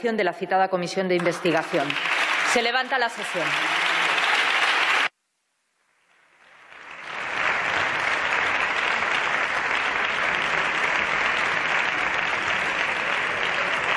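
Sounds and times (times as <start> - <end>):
applause: 1.2 - 5.1, 6.2 - 13.9.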